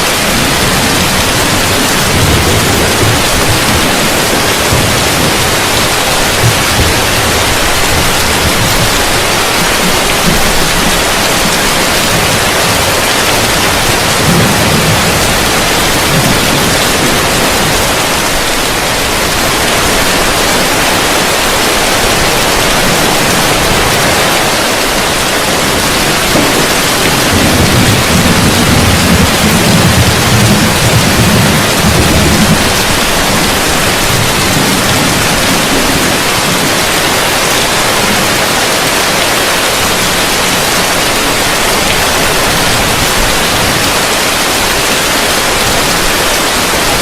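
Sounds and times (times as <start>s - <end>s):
heavy rain on a roof: 0.0s - 47.0s.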